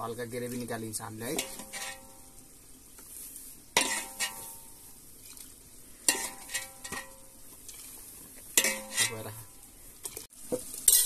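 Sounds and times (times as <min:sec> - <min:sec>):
gravy sizzling in pot: 0:00.0 - 0:11.0.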